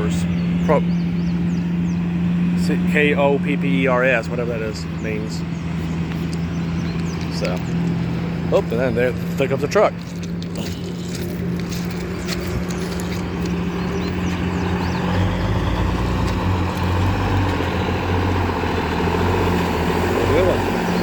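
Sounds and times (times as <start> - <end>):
truck engine rumble: 0.0 - 21.0.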